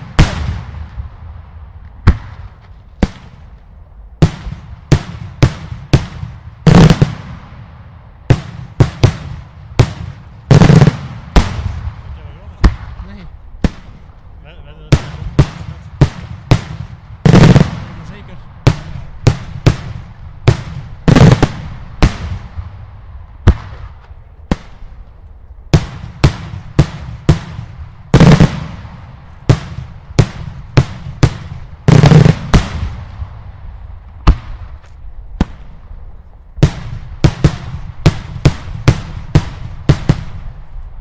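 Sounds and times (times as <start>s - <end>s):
echo of bangs: 0.0s - 25.1s, 25.7s - 40.7s
fireworks bangs: 0.0s - 41.0s.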